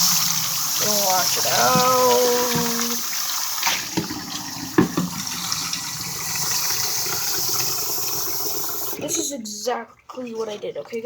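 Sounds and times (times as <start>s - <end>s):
tap water running: 0.0s - 11.0s.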